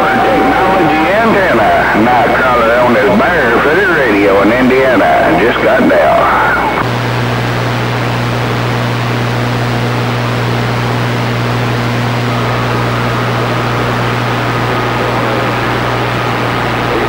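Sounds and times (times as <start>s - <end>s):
low hum: 0.0s - 17.0s
radio static hiss: 0.0s - 17.0s.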